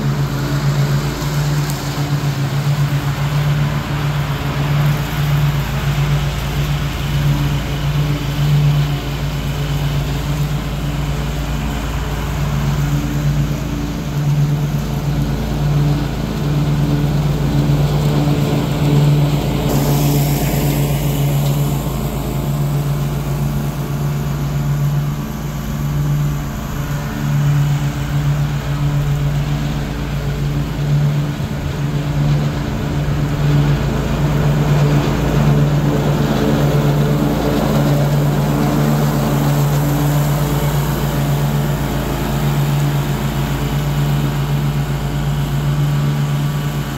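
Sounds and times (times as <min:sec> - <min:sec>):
riding mower cutting grass: 0:00.0 - 0:46.9.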